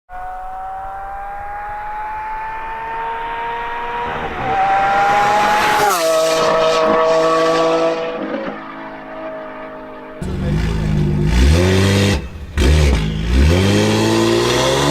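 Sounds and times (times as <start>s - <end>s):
car engine accelerating: 0.1s - 14.9s.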